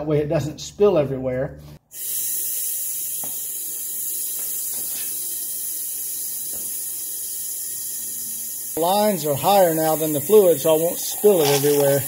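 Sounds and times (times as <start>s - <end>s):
suction hiss: 1.9s - 12.0s.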